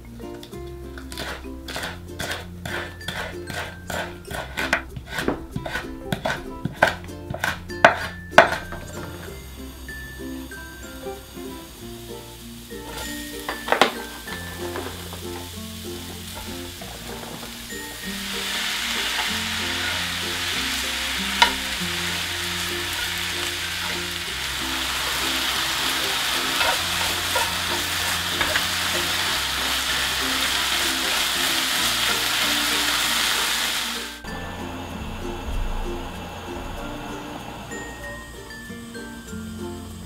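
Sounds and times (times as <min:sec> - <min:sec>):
food sizzling in a pan: 0:00.9 - 0:40.0.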